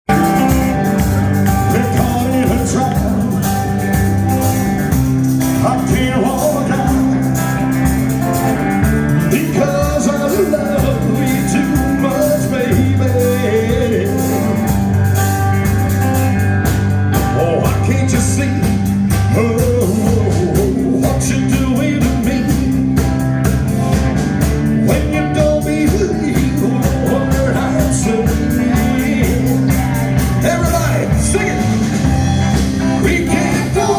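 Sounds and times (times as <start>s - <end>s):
rock and roll band playing: 0.0s - 33.9s
steady drum beat: 0.0s - 33.9s
sustained bass notes: 0.0s - 33.9s.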